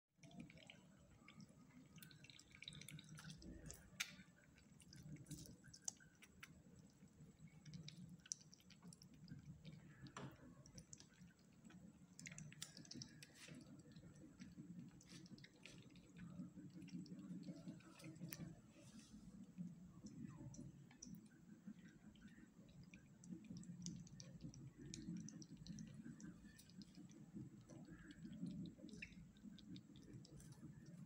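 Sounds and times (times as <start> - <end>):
squirrels lapping milk: 0.2 - 31.0.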